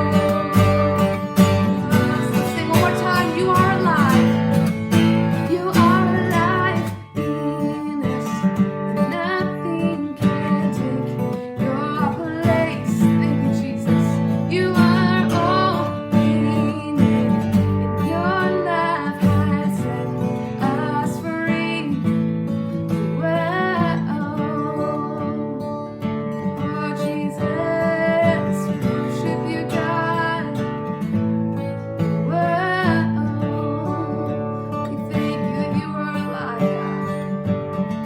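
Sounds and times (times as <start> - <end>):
strummed acoustic guitar: 0.0 - 38.0.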